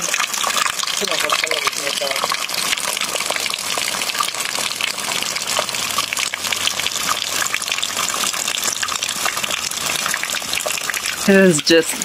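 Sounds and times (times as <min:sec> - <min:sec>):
water dripping onto wet stones: 0:00.0 - 0:12.0.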